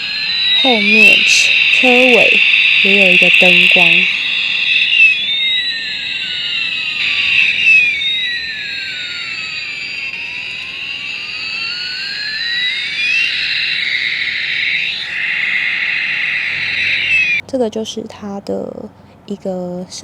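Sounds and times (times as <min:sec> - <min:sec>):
toy electronic jet sound effect: 0:00.0 - 0:17.4.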